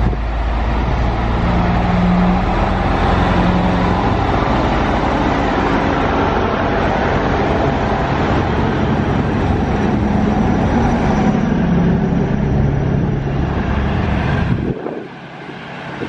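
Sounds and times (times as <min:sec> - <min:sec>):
diesel railcar engine running past: 0:00.0 - 0:16.0.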